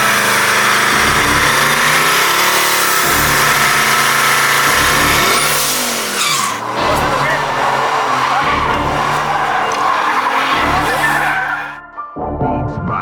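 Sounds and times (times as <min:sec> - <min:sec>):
truck engine revving: 0:00.0 - 0:11.8.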